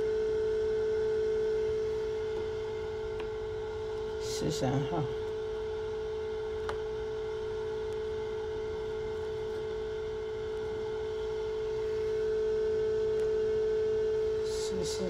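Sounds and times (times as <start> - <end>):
incubator electrical hum: 0.0 - 15.0.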